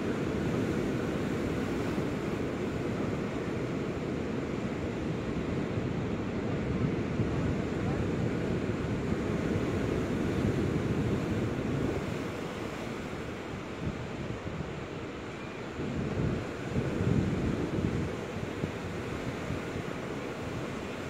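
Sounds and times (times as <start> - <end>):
ocean surf: 0.0 - 21.0
wind noise on microphone: 0.0 - 21.0.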